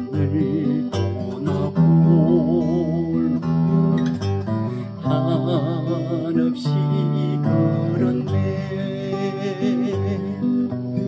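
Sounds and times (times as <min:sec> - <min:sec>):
acoustic guitar ballad: 0:00.0 - 0:11.0.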